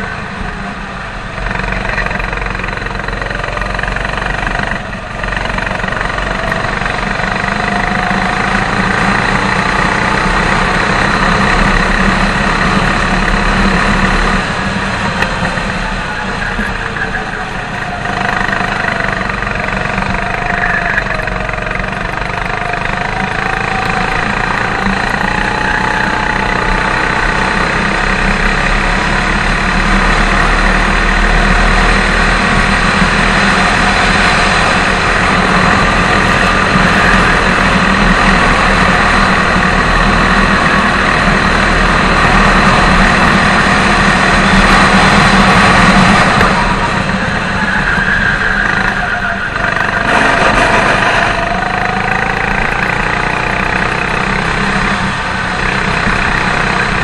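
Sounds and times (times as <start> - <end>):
go-kart engine: 0.0 - 57.0.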